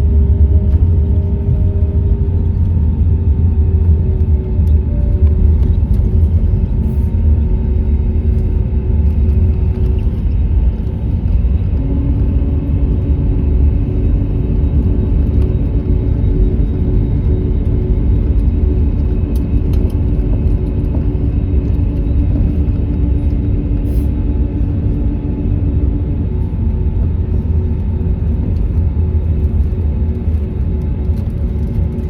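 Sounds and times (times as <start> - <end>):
jet engines idling: 0.0 - 32.0.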